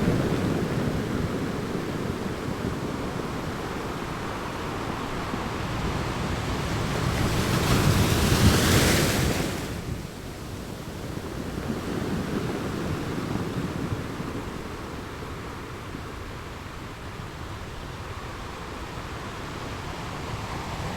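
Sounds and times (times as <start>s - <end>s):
ocean waves crashing: 0.0s - 16.4s, 18.0s - 20.9s.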